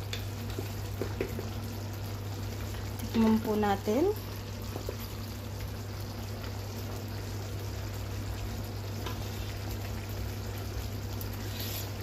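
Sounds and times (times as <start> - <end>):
sauce bubbling in a frying pan: 0.0 - 12.0.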